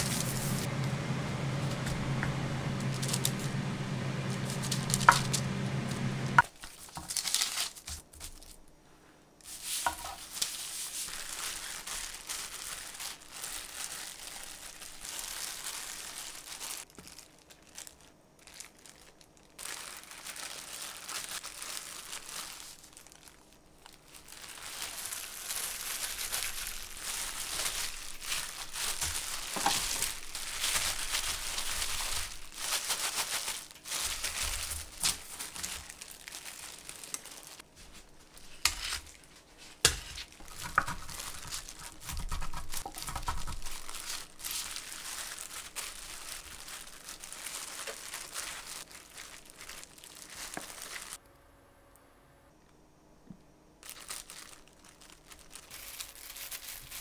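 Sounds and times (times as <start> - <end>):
crinkling and rustling: 0.0 - 8.7, 9.4 - 51.2, 53.3 - 57.0.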